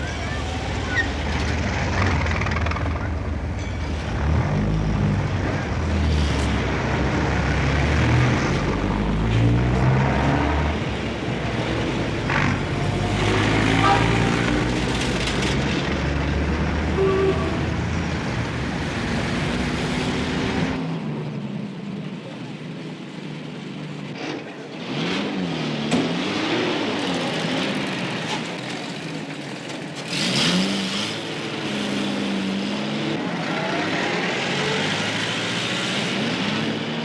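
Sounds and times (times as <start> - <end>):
car and truck engines passing: 0.0 - 37.0.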